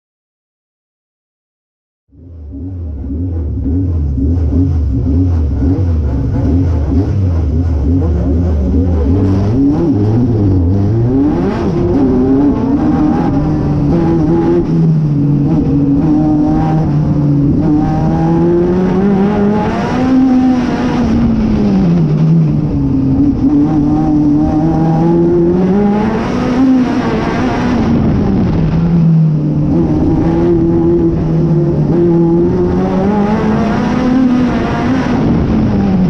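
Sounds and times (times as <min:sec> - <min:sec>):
race car engine revving: 0:02.1 - 0:36.0
road and wind noise: 0:02.1 - 0:36.0.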